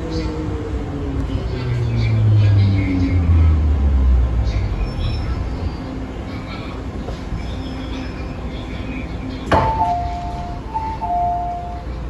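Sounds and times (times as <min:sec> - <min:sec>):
train running hum: 0:00.0 - 0:12.0.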